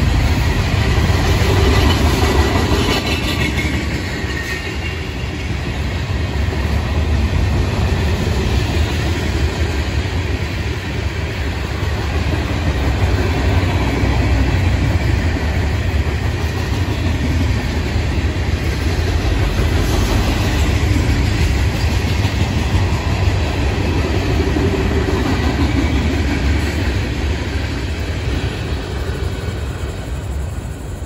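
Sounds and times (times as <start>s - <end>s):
freight train cars rolling on rails: 0.0s - 31.0s.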